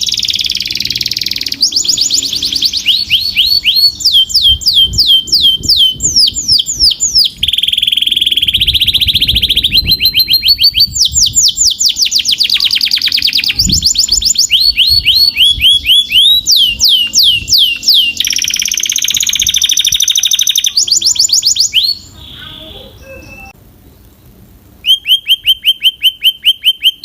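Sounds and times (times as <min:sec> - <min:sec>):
canary singing: 0:00.0 - 0:24.1, 0:24.8 - 0:27.0.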